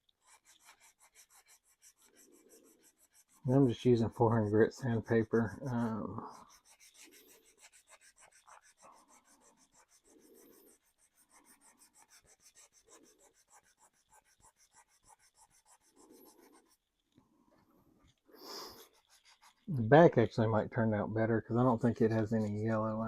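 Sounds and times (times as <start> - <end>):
sandpaper rubbing on plastic: 0.0 - 16.8, 18.4 - 19.8, 21.5 - 23.0.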